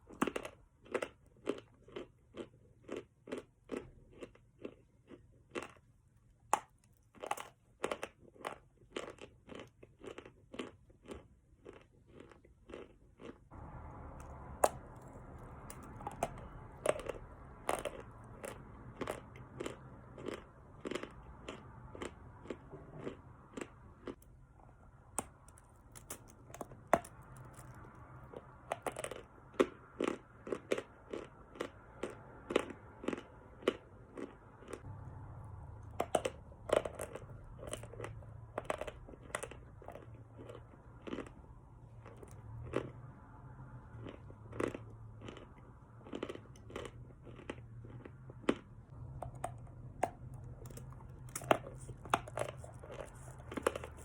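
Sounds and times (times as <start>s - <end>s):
chalk being chewed crunchily: 0.0s - 24.3s, 25.2s - 34.9s, 35.9s - 43.0s, 43.9s - 54.0s.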